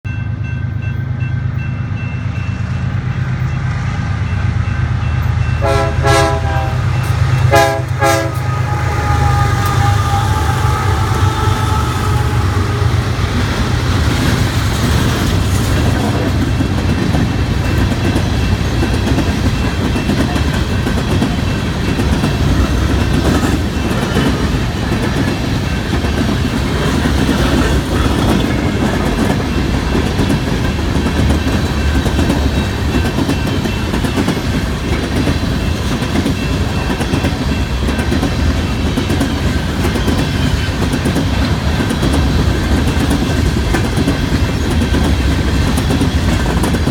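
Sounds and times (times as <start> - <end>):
diesel locomotive hum: 0.1 - 46.9
train wheels clattering over rails: 5.0 - 46.9.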